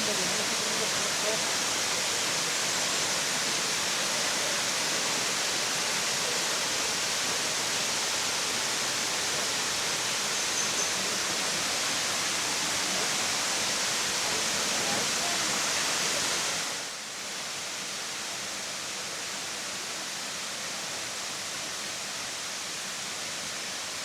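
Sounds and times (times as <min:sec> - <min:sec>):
waterfall rushing hiss: 0:00.0 - 0:24.0.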